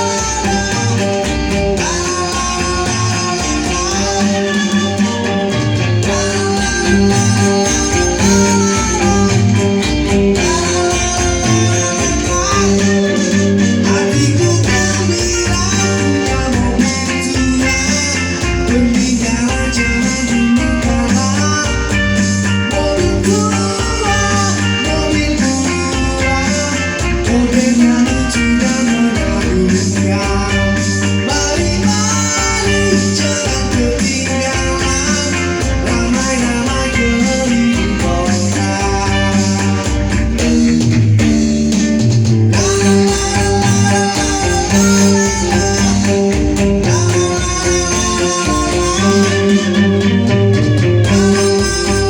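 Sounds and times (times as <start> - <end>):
person singing: 0.0 - 40.8, 42.5 - 52.0
live pop-rock band: 0.0 - 52.0.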